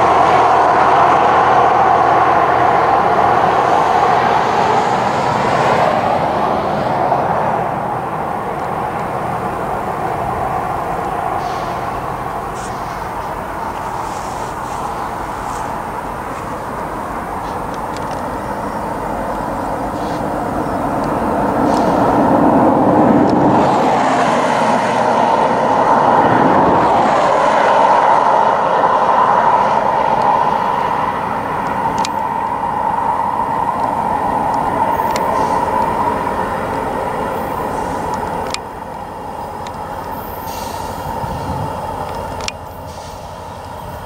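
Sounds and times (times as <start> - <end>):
freight train rumbling: 0.0 - 44.0.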